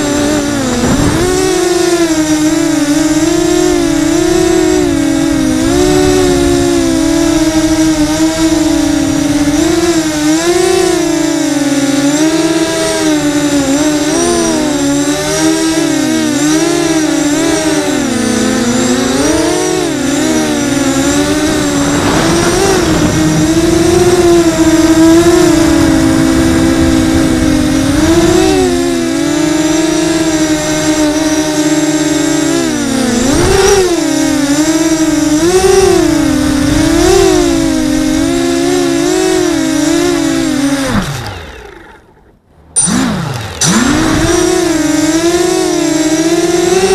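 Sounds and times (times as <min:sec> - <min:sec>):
quadcopter propellers buzzing: 0:00.0 - 0:46.9.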